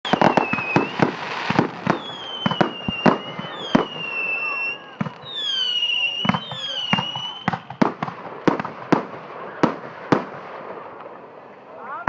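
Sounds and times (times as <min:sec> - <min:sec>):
firework whistles: 0:00.0 - 0:10.4
firework bangs and pops: 0:00.0 - 0:11.4.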